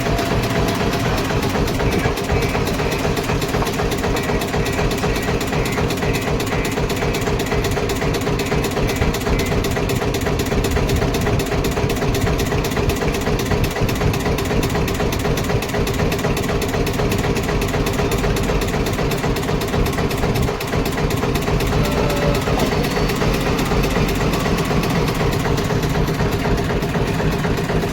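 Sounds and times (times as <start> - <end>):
diesel engine running steadily: 0.0 - 27.9.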